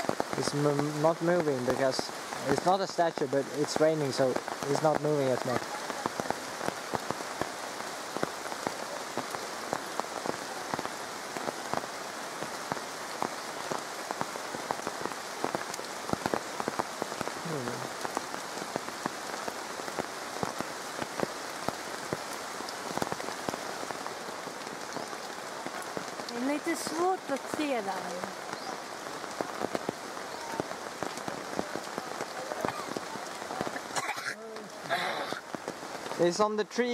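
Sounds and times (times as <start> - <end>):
raindrops ticking on leaves: 0.0 - 36.9
steady rainfall: 0.0 - 36.9.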